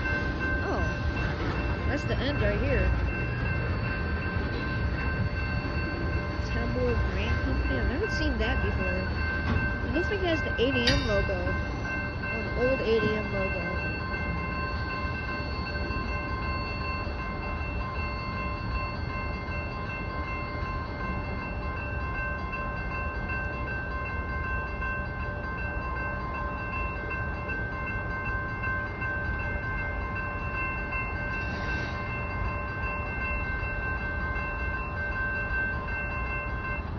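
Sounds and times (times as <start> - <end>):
train low rumble: 0.0 - 36.9.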